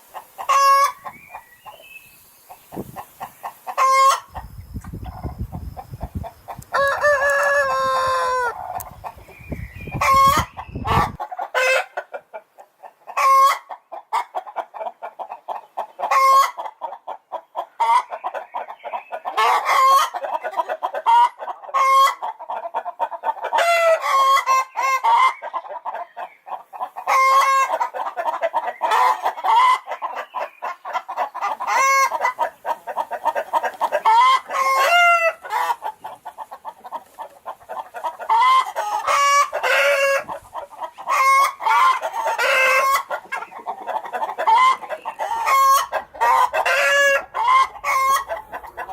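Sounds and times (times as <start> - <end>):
hens cackling: 0.0 - 48.9.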